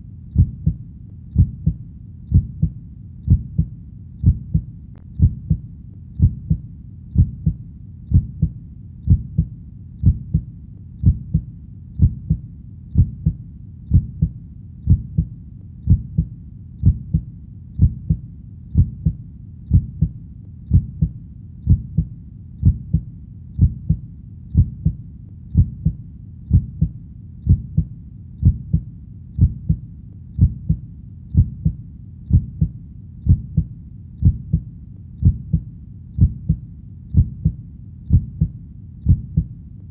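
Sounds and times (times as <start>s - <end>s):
heartbeat: 0.0s - 39.9s
steady low background hum: 0.0s - 39.9s.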